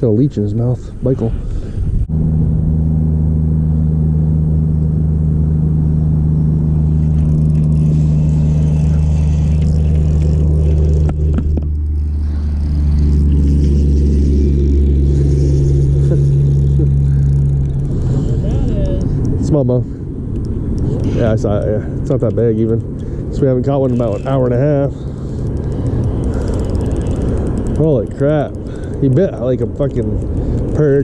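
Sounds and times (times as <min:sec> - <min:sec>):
outboard motor droning: 0:02.1 - 0:31.0.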